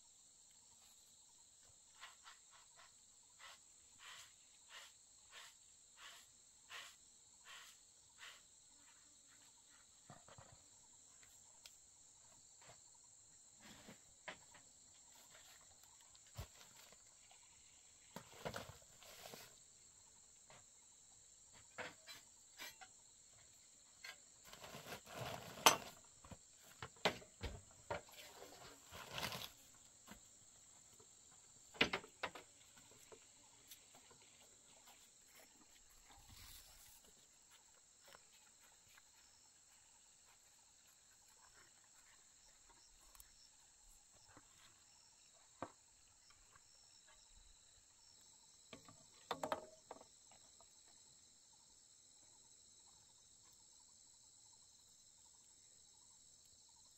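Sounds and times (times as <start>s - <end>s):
insects chirring: 0.0s - 56.9s.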